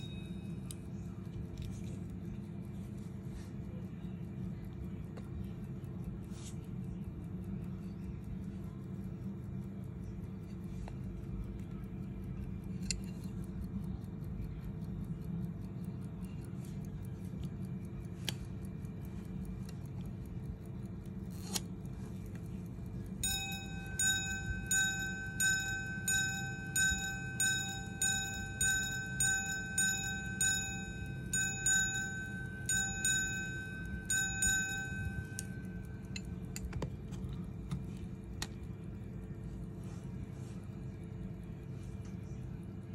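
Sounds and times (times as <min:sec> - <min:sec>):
pocket watch chiming: 0:00.0 - 0:03.7, 0:04.3 - 0:38.0
repeater mechanism clicks: 0:00.0 - 0:39.2
watch ticking: 0:00.0 - 0:40.0.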